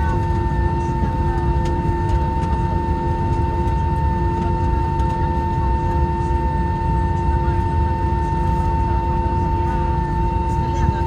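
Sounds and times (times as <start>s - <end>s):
airplane taxiing: 0.0s - 11.0s.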